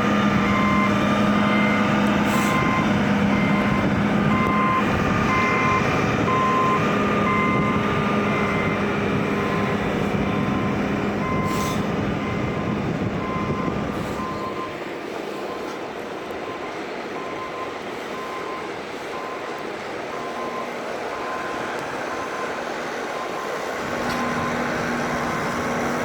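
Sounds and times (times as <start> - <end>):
heavy engine humming: 0.0 - 26.0
vehicle back-up alarm beeping: 0.0 - 26.0.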